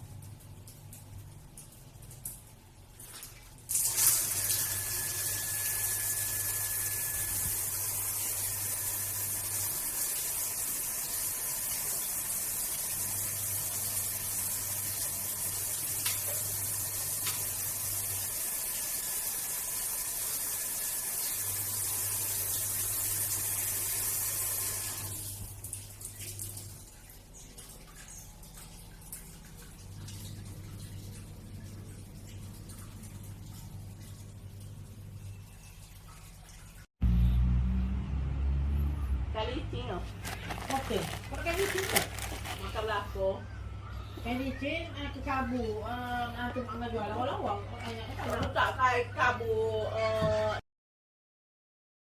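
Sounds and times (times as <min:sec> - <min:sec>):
water running through heater: 0:00.0 - 0:36.9, 0:39.8 - 0:43.6, 0:44.2 - 0:49.9.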